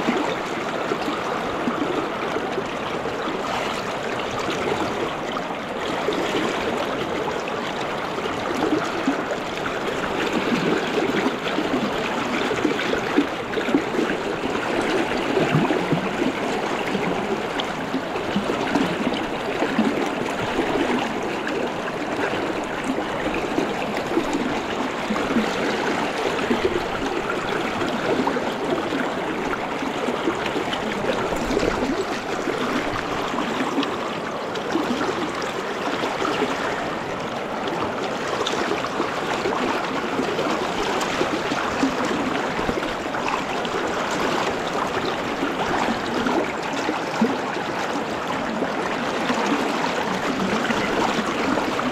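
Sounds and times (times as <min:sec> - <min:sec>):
river rushing over rocks: 0:00.0 - 0:51.9.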